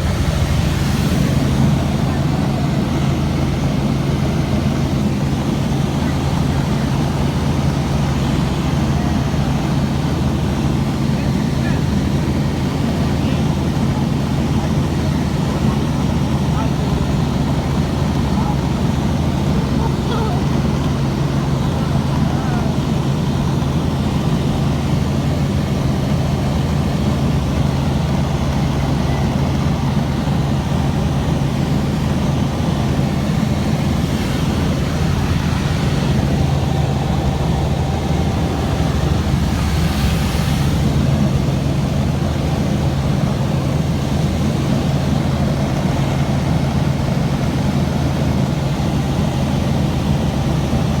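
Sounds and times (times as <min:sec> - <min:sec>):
helicopter engine and rotor drone: 0:00.0 - 0:51.0.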